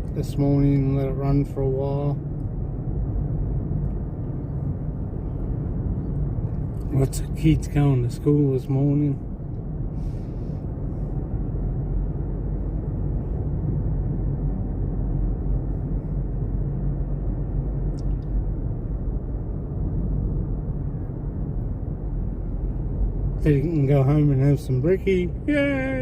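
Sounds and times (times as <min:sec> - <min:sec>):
car cabin road rumble: 0:00.0 - 0:26.0.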